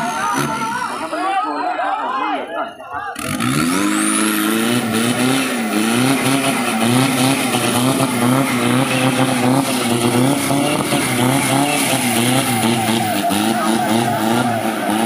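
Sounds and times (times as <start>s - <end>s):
pickup truck engine at high revs: 0.0s - 1.2s, 3.2s - 15.0s.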